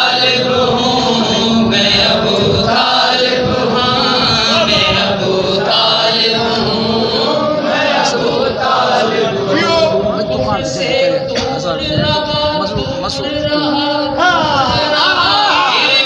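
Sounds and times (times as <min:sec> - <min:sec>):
man singing in a chanting style: 0:00.0 - 0:16.0.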